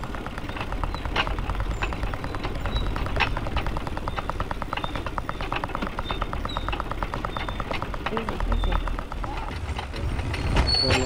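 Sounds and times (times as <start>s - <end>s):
rapid even ticking: 0.0s - 11.0s
wheels rumbling on rails: 0.0s - 11.0s.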